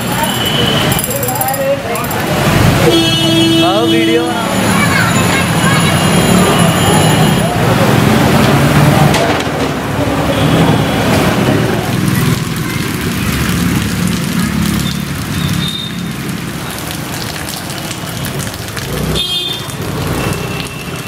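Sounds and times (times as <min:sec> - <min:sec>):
floodwater splashing: 0:02.1 - 0:21.0.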